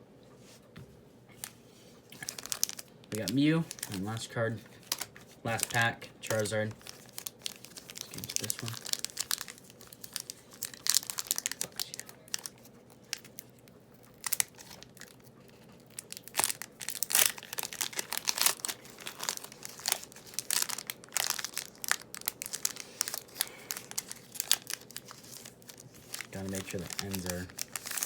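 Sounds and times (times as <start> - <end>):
foil wrapper crinkling and tearing: 1.4 - 28.0.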